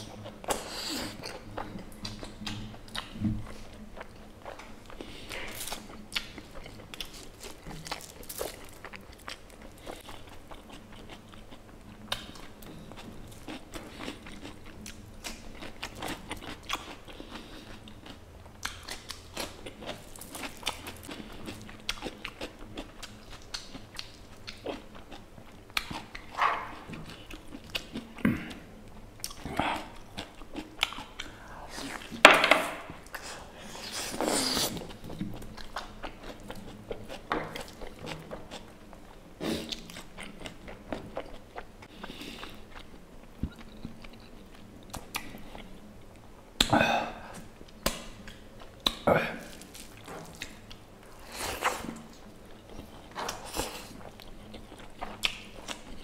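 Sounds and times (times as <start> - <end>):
chewing and wet mouth sounds: 0.0 - 32.2, 32.9 - 56.0.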